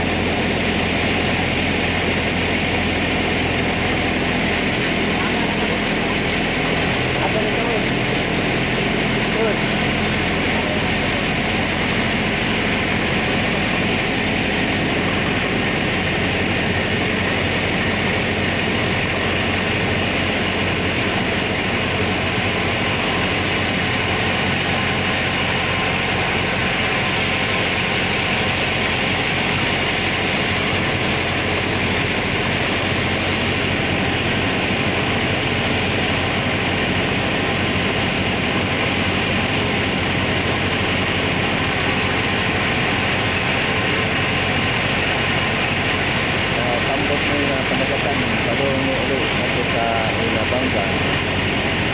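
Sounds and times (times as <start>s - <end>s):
boat engine droning: 0.0s - 51.9s.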